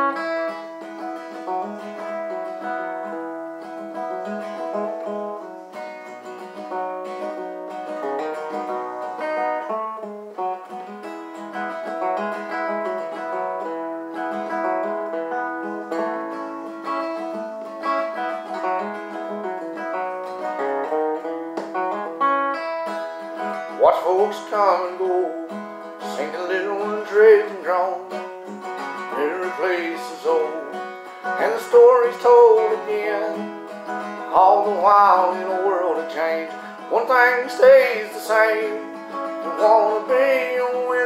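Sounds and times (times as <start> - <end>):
acoustic guitar picking: 0.0 - 41.0.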